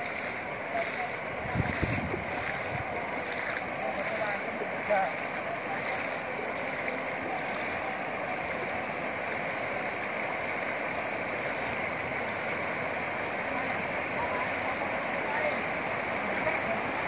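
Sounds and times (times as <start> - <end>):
people wading through floodwater: 0.0 - 17.0.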